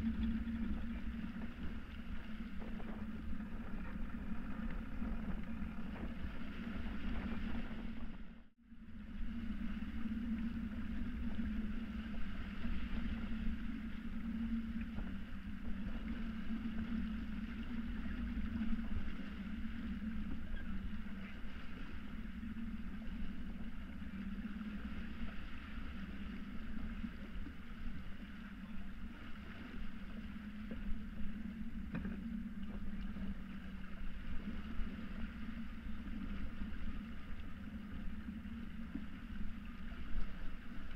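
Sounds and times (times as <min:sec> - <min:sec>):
steady low hum: 0:00.0 - 0:40.9
water rushing along hull: 0:00.0 - 0:40.9
wind rumbling on microphone: 0:00.0 - 0:40.9.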